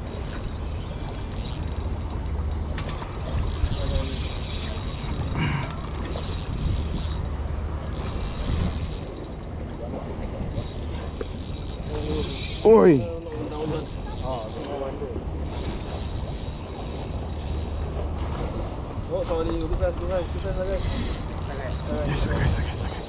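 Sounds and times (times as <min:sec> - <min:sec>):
fishing reel whirring: 0:00.0 - 0:09.6, 0:10.4 - 0:18.0, 0:20.2 - 0:23.0.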